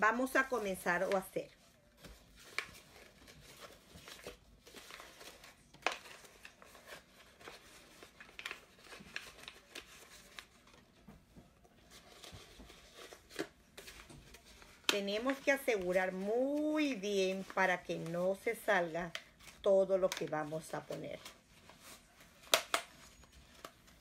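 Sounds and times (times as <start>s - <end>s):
paper rustling and crinkling: 0.0s - 24.0s.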